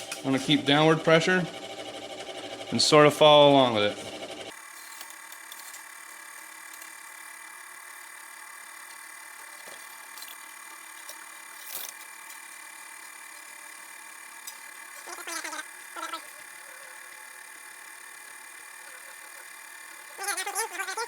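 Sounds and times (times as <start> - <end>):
lathe motor whine: 0.0 - 21.0.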